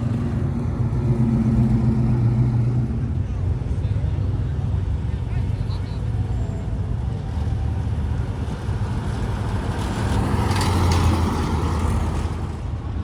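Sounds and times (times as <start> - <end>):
car engine rumbling driving past: 0.0 - 13.0.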